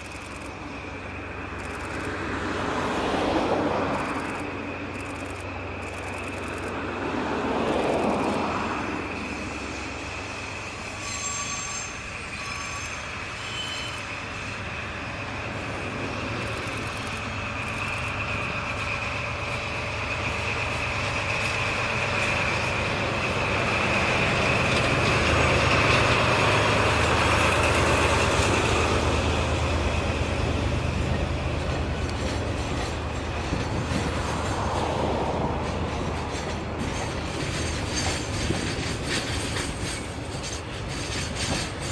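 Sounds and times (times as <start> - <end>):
locomotive engine running: 0.0 - 11.0, 14.0 - 41.9
steady high squeal: 7.8 - 41.9.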